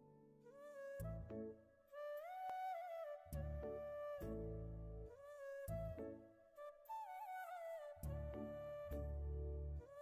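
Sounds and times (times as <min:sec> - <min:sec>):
slow held melody: 0:00.0 - 0:10.0.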